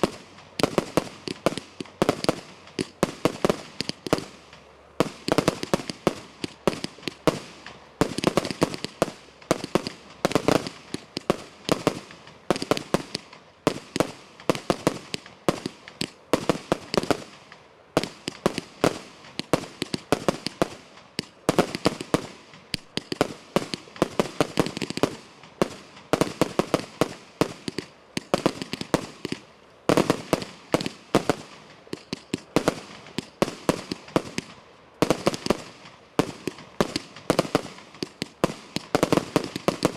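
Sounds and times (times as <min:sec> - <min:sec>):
firework shells bursting: 0:00.0 - 0:39.9.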